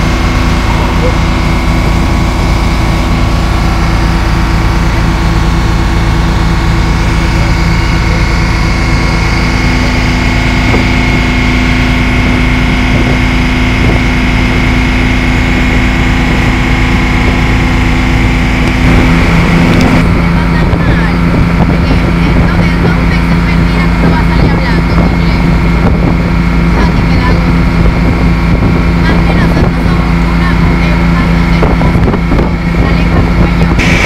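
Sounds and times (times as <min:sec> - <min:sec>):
motorboat engine droning: 0:00.0 - 0:34.0.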